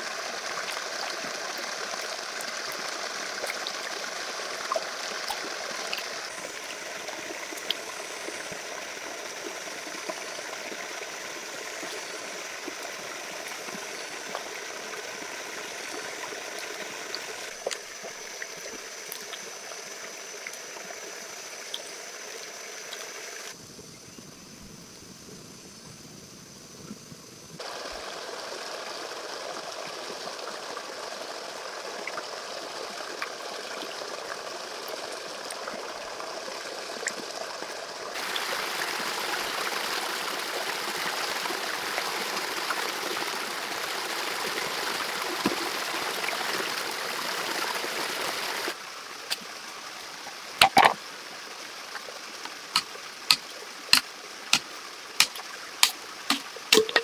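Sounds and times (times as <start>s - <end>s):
running water rushing: 0.0s - 23.6s, 27.6s - 57.0s.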